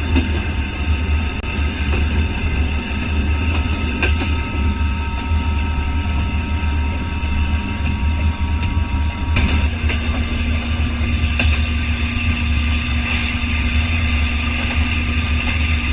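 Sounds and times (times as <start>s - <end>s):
moving vehicle rumble: 0.0s - 15.9s.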